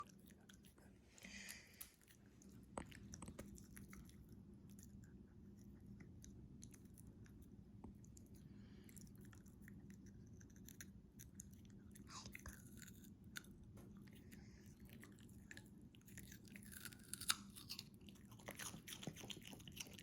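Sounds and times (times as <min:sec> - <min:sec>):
dog chewing crunchily: 0:00.0 - 0:20.0.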